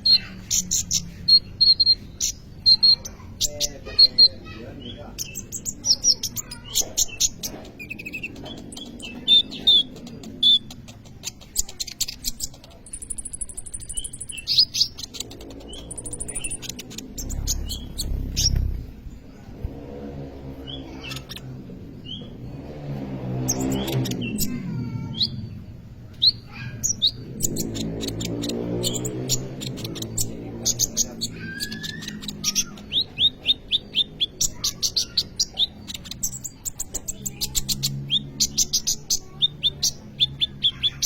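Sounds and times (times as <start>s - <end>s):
thin buzzy bird trill: 0.0s - 19.5s, 23.5s - 41.0s
bird chirping and trilling: 0.0s - 41.0s.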